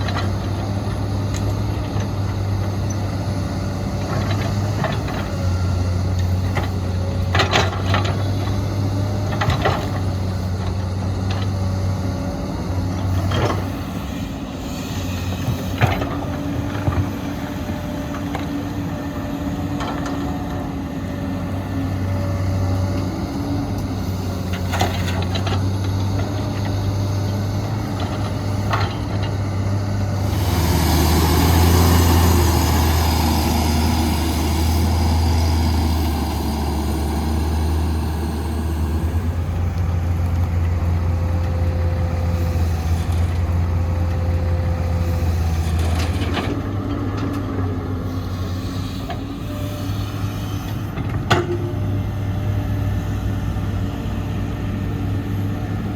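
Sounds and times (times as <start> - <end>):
diesel earthmoving machinery running: 0.0 - 55.9.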